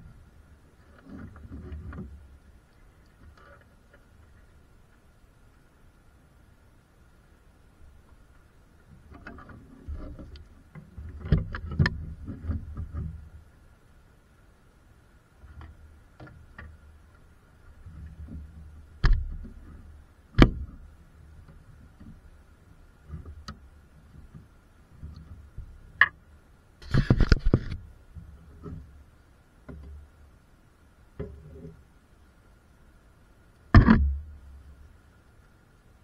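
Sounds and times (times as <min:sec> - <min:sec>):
faint high hum: 0:00.0 - 0:36.0.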